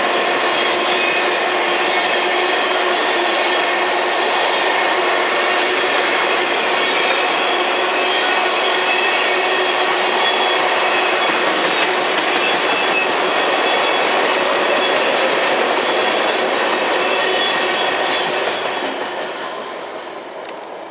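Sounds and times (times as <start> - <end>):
high wheel squeal: 0.0 - 20.0
train wheels clattering on rails: 0.0 - 20.8.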